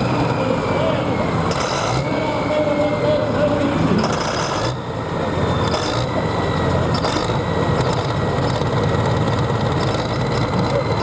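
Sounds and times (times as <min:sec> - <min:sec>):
tractor engine running at low revs: 0:00.0 - 0:11.0.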